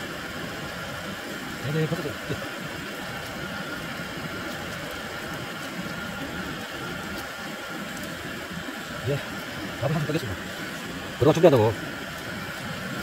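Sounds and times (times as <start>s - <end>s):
camp stove hissing: 0.0s - 13.0s.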